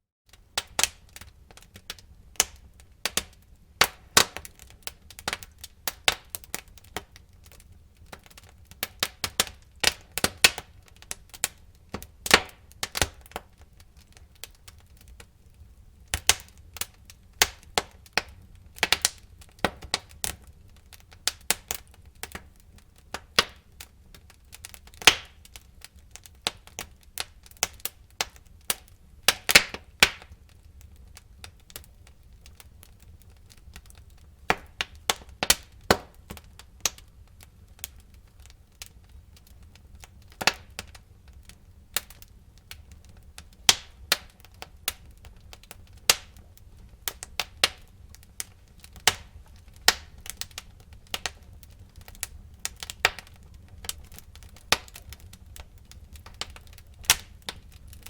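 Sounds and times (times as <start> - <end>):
low rumble of flames: 0.3 - 58.0
wood fire crackling and popping: 0.3 - 58.0.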